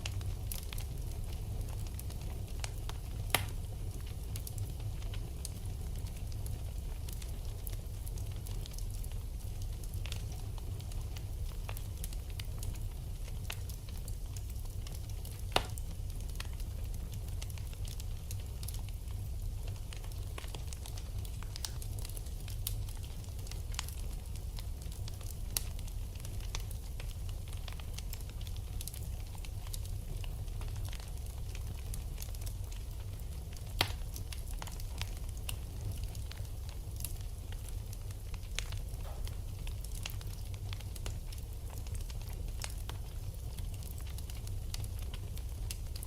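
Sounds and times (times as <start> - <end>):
low fire rumble: 0.0 - 46.0
wood fire crackling: 0.0 - 46.0.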